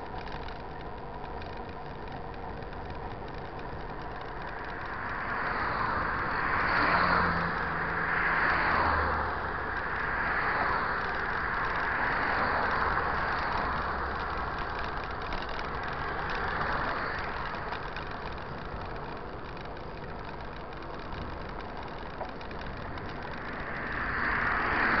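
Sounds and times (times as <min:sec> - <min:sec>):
bicycle road noise: 0:00.0 - 0:25.0
cars driving past: 0:02.8 - 0:25.0.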